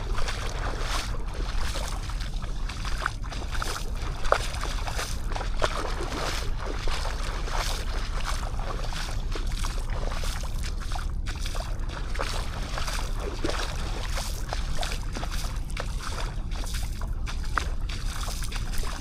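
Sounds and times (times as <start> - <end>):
small waves lapping on sand: 0.0 - 19.0.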